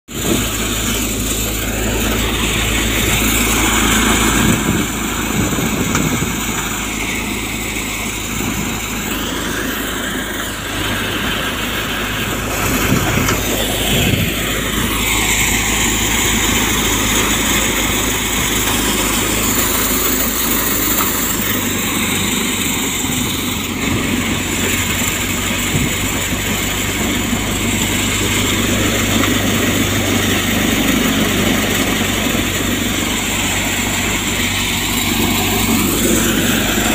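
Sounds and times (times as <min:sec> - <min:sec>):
thresher mechanical drone: 0:00.1 - 0:36.9.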